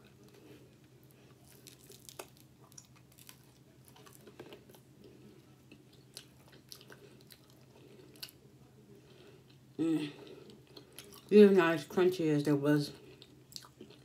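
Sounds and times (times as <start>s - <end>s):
person chewing with crunches: 0.0s - 11.3s, 12.9s - 14.0s.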